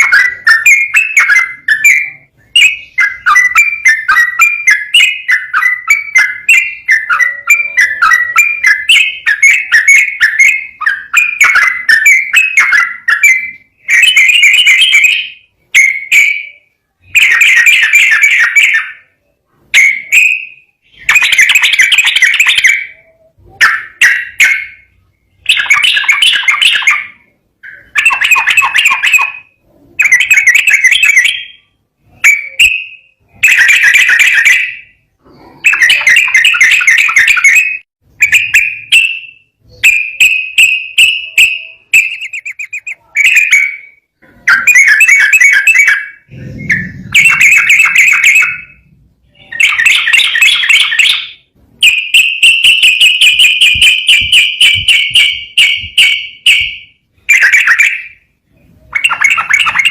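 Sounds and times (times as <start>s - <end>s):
bird singing trilled phrases: 0.0s - 59.9s.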